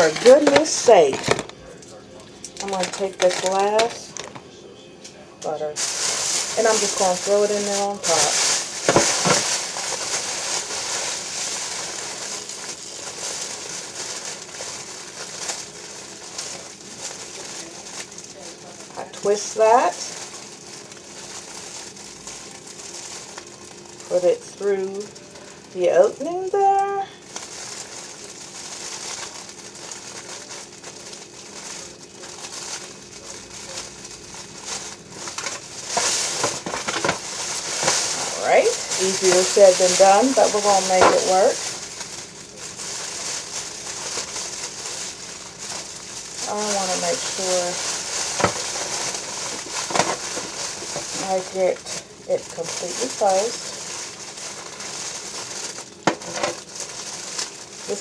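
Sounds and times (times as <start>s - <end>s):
plastic bag crinkling: 0.0s - 4.4s, 5.5s - 58.0s.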